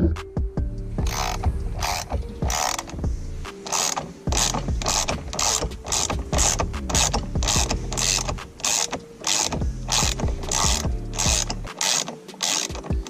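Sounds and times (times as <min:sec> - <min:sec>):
socket ratchet clicking: 0:01.0 - 0:13.0.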